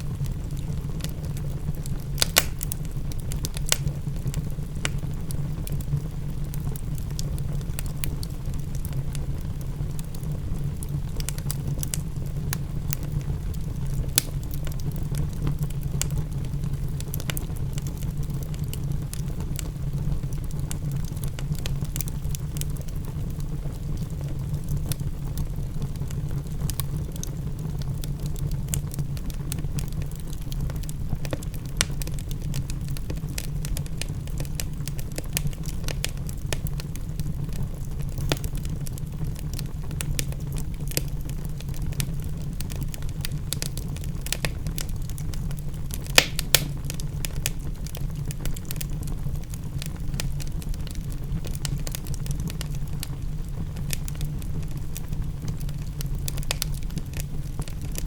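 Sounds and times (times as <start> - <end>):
low rumble of rain: 0.0 - 58.0
wood fire crackling and popping: 0.0 - 58.0.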